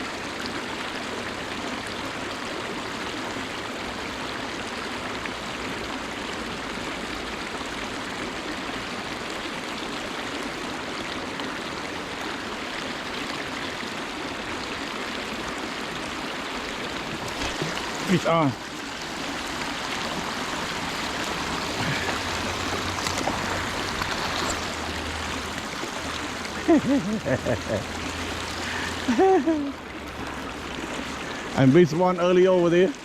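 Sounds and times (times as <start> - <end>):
river water flowing over riffles: 0.0 - 33.0.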